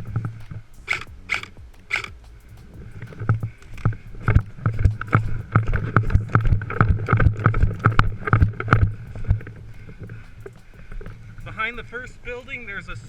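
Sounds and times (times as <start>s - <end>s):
rapid sharp knocks: 0.0s - 11.9s
steady low hum: 0.0s - 13.0s.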